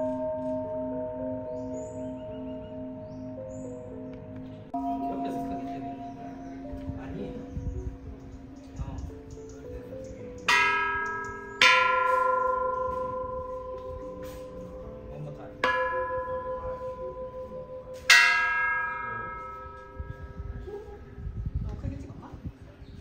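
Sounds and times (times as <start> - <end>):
temple bells ringing: 0.0 - 21.1.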